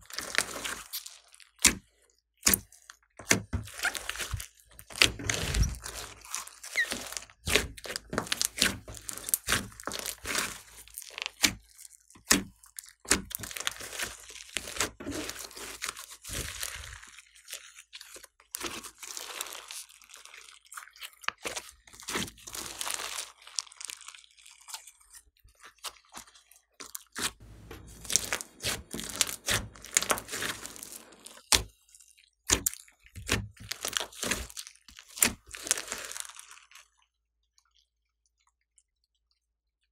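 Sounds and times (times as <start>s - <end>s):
sticky slime crackling and popping: 0.0s - 37.0s.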